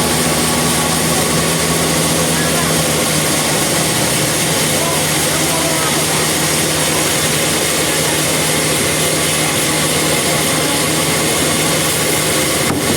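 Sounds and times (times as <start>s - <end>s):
portable sawmill running: 0.0s - 12.9s.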